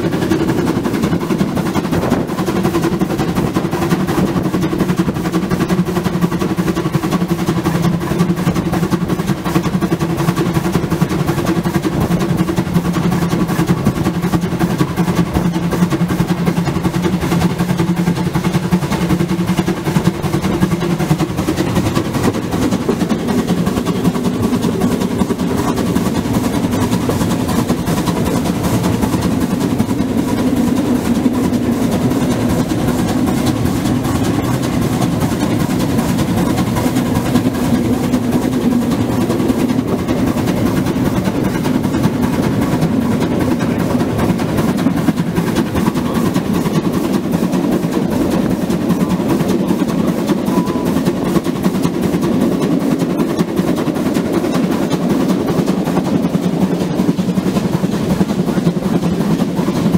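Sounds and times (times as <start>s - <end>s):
steam locomotive exhaust: 0.0s - 59.9s.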